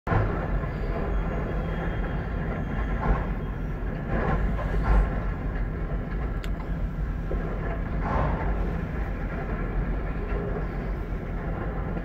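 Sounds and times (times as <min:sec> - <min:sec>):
car road noise: 0:00.1 - 0:12.0
freight train rumble: 0:00.1 - 0:12.0.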